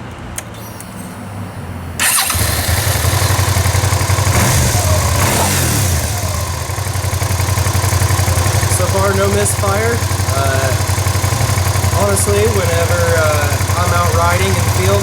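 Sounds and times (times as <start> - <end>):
motorcycle engine revving: 0.4 - 15.0.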